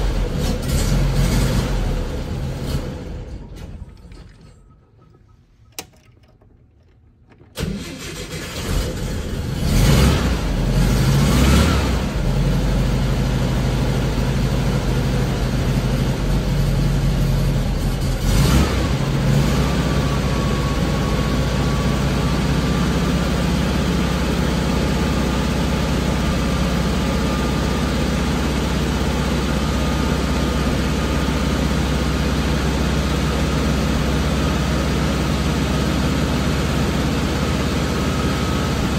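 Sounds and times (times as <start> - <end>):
car engine starting and idling: 0.0 - 38.9.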